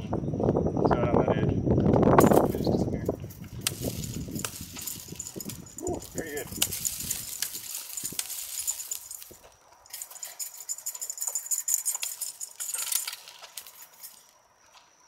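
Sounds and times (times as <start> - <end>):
metallic chain chinking: 2.2 - 14.4.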